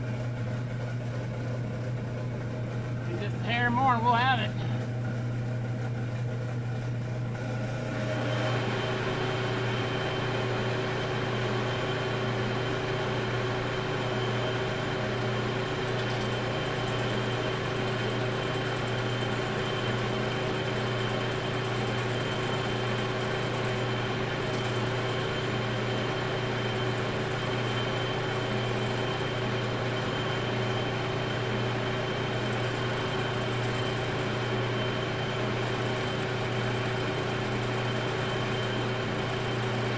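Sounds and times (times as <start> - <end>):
lathe spindle whine: 0.0 - 39.9
metal lathe humming: 0.0 - 39.9.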